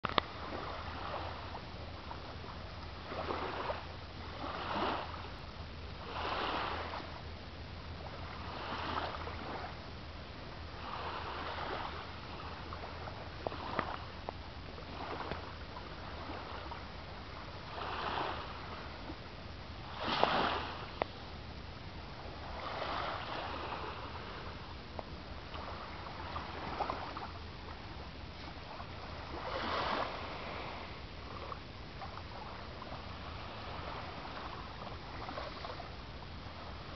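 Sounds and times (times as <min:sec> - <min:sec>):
small waves washing onto beach: 0:00.0 - 0:36.9.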